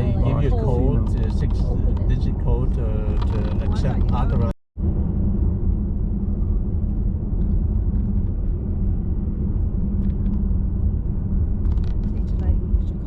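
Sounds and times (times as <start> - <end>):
car driving on road: 0.0 - 13.0.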